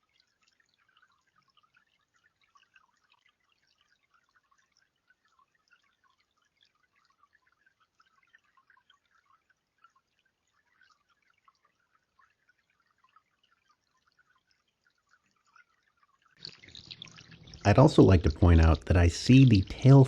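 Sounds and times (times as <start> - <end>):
water trickling from fountain: 0.0 - 20.0.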